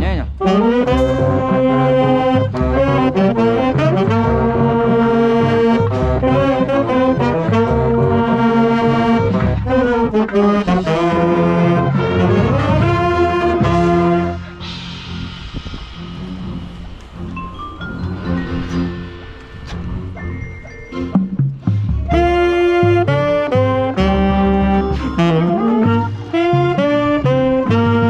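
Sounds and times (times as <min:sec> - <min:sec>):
marching band brass chords: 0:00.0 - 0:28.0.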